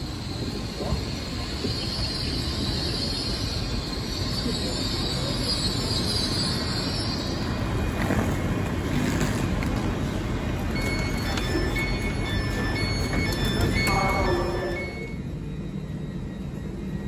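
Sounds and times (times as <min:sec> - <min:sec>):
train rumbling hum: 0:00.0 - 0:17.0.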